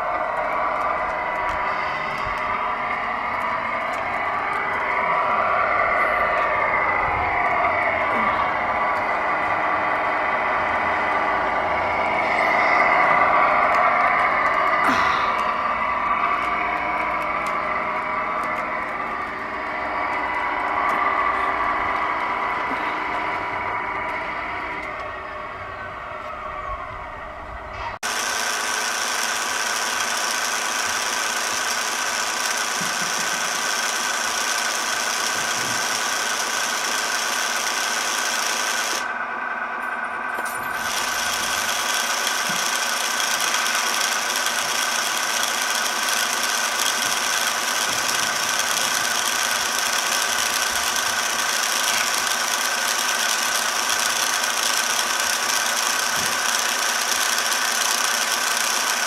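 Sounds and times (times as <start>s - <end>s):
small electric motor whining: 0.0s - 26.8s, 28.0s - 39.1s, 40.6s - 59.0s.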